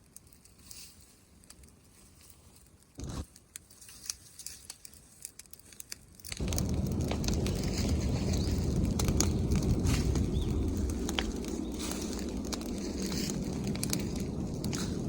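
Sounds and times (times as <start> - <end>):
bonfire crackling and snapping: 0.0 - 15.0.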